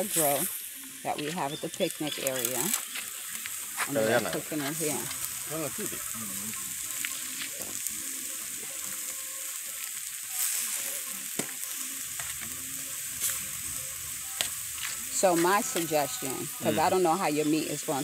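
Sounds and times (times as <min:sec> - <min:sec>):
meat sizzling on grill: 0:00.0 - 0:18.0.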